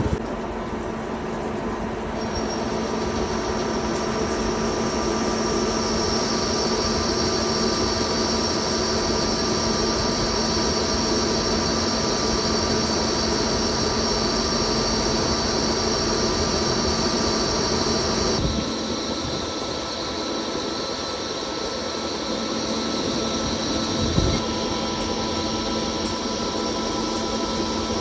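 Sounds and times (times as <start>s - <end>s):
lathe machine hum and whine: 0.0s - 28.0s.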